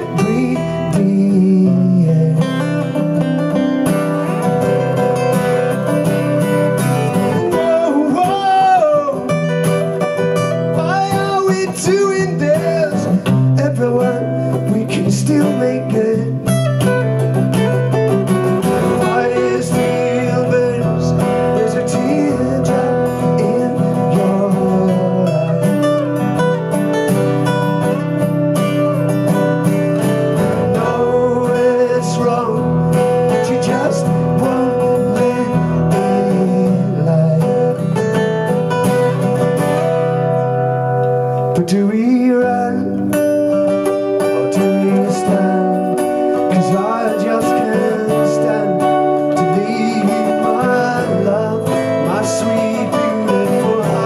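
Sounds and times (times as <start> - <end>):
man singing: 0.0 - 5.0, 6.4 - 26.4, 29.9 - 38.4, 41.5 - 54.0
acoustic guitars playing: 0.0 - 54.0.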